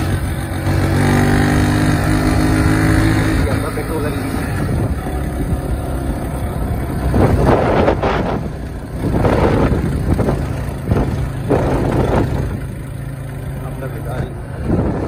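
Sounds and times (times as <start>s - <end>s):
motorcycle engine running: 0.0s - 15.0s
rushes of noise: 0.0s - 15.0s.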